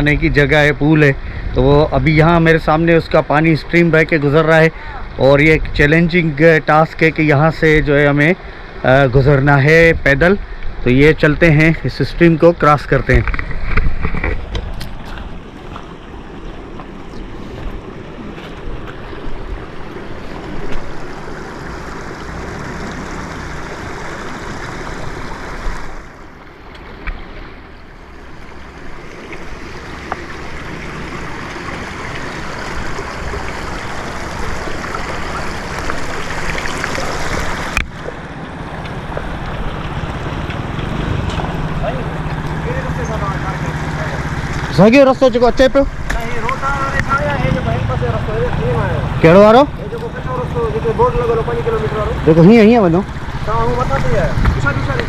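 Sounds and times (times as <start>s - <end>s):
stream water over rocks: 0.0s - 55.0s.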